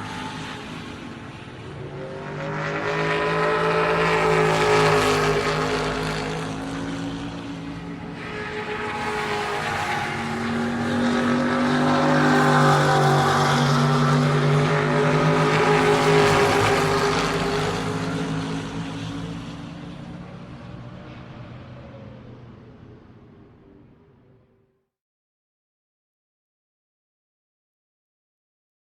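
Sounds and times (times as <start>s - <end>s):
race car engine passing: 0.0s - 24.0s.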